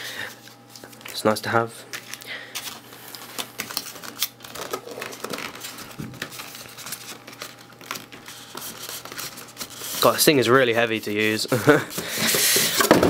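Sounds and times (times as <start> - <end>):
polystyrene packaging scraping: 2.0 - 13.0.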